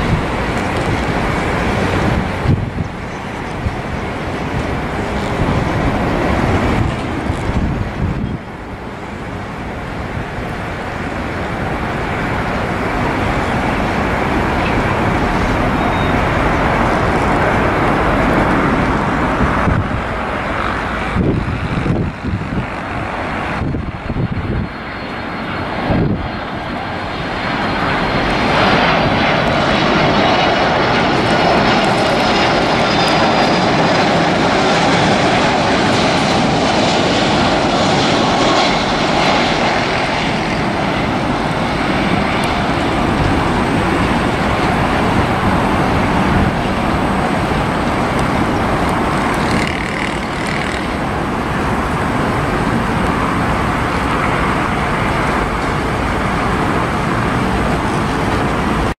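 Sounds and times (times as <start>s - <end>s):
faint high jet whine: 0.0s - 59.0s
jet engines rushing: 0.0s - 59.0s.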